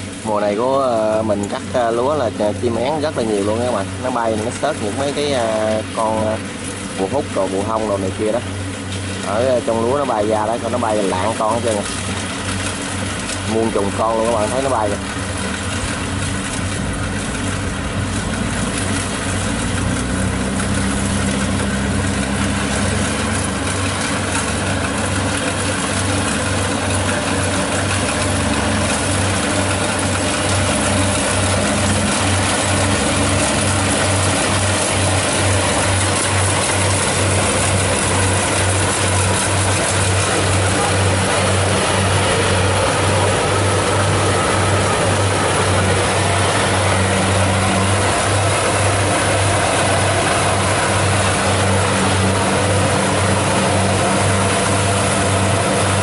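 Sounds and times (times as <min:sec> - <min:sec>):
harvester diesel engine running: 0:00.0 - 0:56.0.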